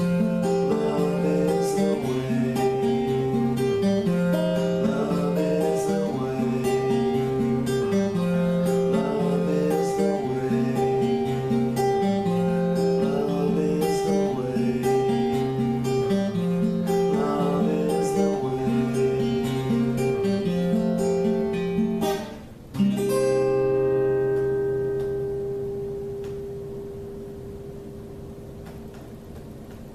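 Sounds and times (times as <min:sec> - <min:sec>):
acoustic guitar picking: 0:00.0 - 0:29.9
guitar chord ringing: 0:00.0 - 0:29.9.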